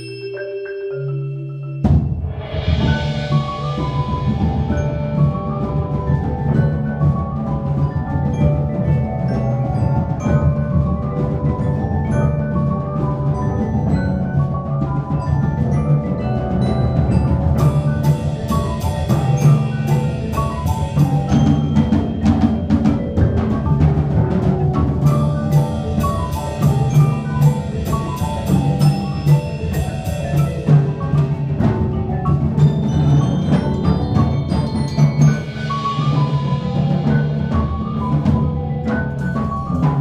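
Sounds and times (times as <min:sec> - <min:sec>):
marimbas struck with mallets: 0:00.0 - 0:40.0
percussion ensemble playing: 0:00.0 - 0:40.0.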